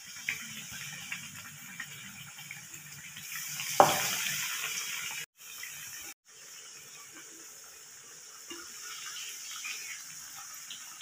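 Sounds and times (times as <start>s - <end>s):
bread deep-frying in hot oil: 0.0s - 11.0s.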